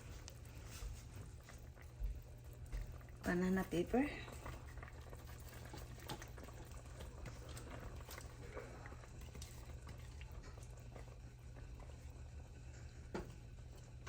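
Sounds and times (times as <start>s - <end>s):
pot boiling faintly: 0.0s - 14.0s.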